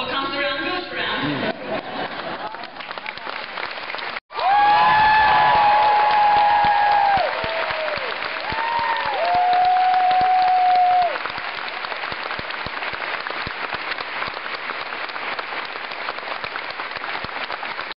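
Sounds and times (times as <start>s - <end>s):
crowd applauding: 1.5s - 18.0s.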